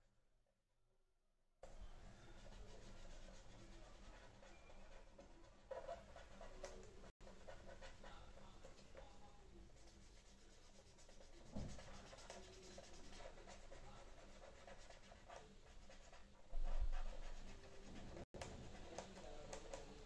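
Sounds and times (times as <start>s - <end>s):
pen scratching on paper: 2.2s - 8.8s, 9.6s - 20.0s.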